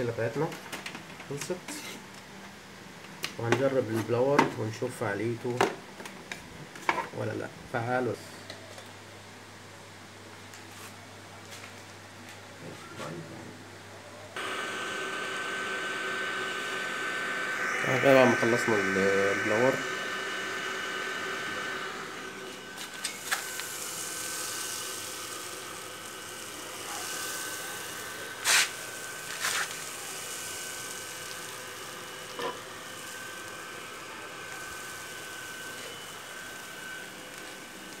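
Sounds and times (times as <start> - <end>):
electric fan whirring: 0.0 - 38.0.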